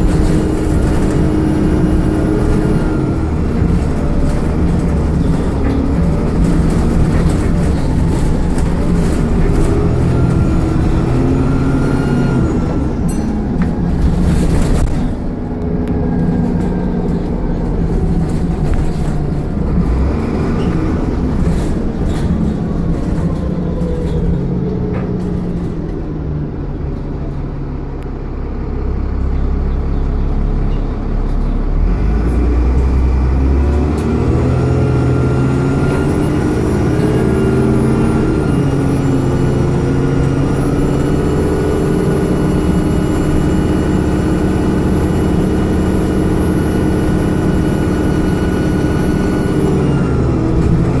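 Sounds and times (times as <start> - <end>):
bus engine pulling and idling: 0.0 - 51.0.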